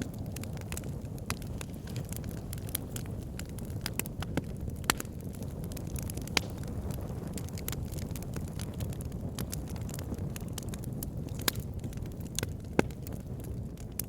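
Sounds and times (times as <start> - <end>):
fire popping and snapping: 0.0 - 14.0
fireplace fire crackling: 0.0 - 14.0.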